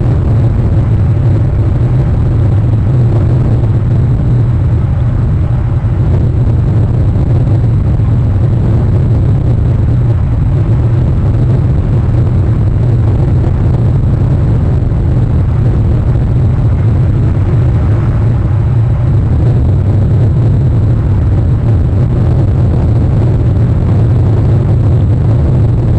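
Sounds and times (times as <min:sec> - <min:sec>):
wind on microphone: 0:00.0 - 0:25.9.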